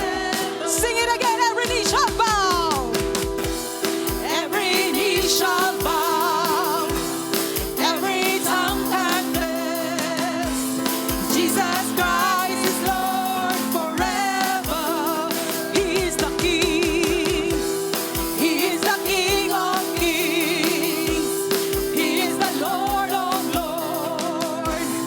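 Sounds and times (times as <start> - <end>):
drum beat: 0.0 - 25.0
keyboard chords: 0.0 - 25.0
people singing with vibrato: 0.0 - 25.0.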